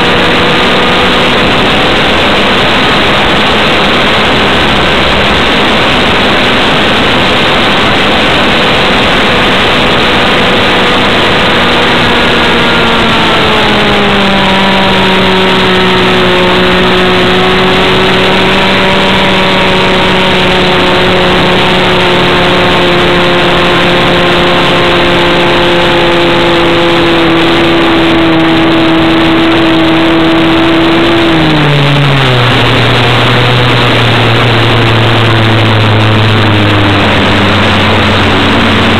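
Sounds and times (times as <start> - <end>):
two-stroke engine running: 0.0 - 38.9.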